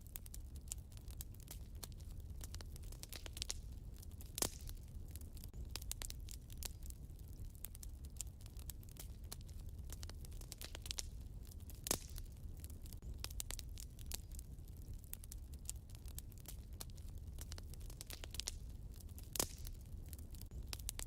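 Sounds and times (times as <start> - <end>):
fire crackling in a fireplace: 0.0 - 21.0.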